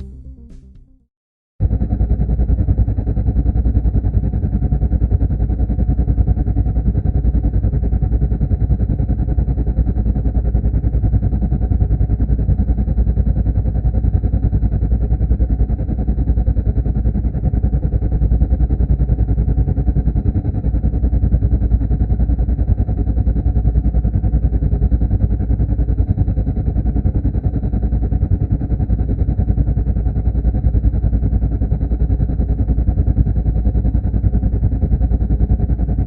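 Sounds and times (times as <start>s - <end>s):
muffled helicopter engine drone: 1.6s - 36.0s.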